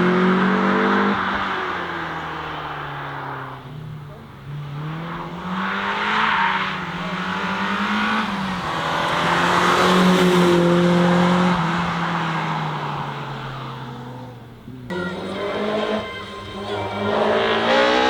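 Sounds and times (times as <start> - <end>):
car engine accelerating past: 0.0 - 18.0.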